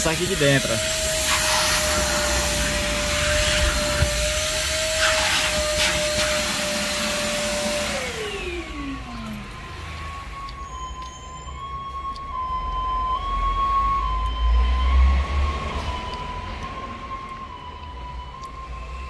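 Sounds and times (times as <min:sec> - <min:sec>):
vacuum cleaner motor whining: 0:00.0 - 0:19.0.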